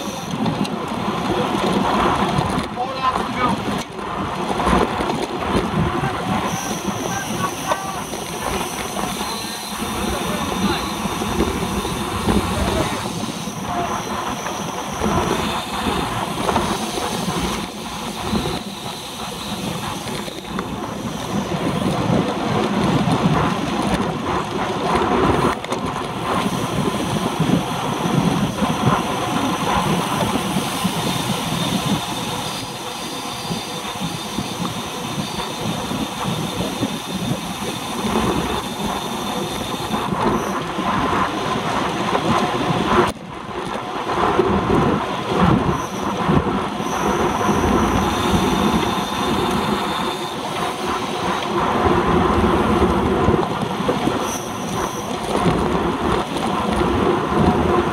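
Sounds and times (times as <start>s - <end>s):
bicycle road rumble and rattle: 0.0s - 57.9s
wind noise on microphone: 0.0s - 57.9s.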